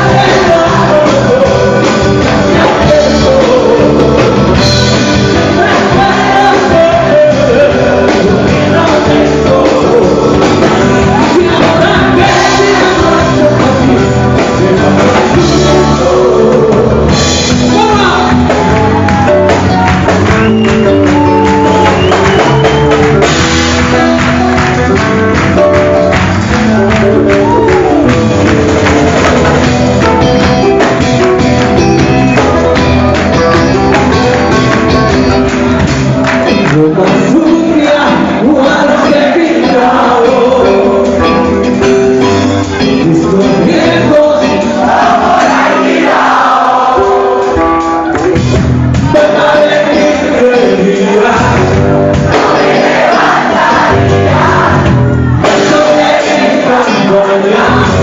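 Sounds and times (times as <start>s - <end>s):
lead singer singing: 0.0s - 58.0s
live rock band playing: 0.0s - 58.0s.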